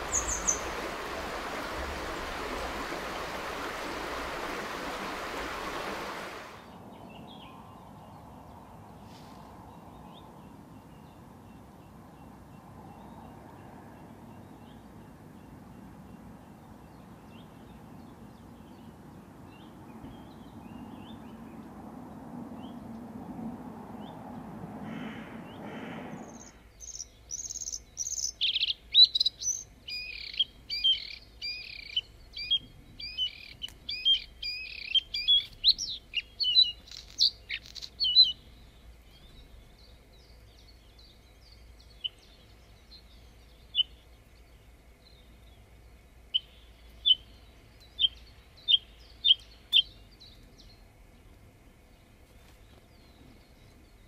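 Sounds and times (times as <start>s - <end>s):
songbird singing: 0.0s - 23.2s, 23.8s - 54.0s.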